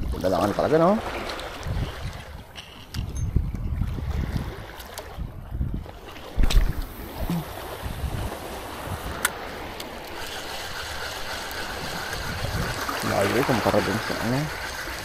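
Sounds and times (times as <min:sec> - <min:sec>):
sea water washing on rocks: 0:00.0 - 0:02.9, 0:03.8 - 0:15.0
wind buffeting microphone: 0:00.0 - 0:15.0.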